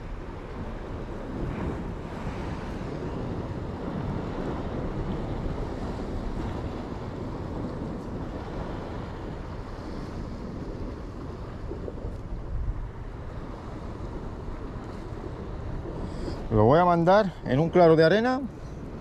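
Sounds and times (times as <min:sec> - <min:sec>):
sea waves against rocks: 0:00.0 - 0:19.0
wind buffeting microphone: 0:00.0 - 0:19.0.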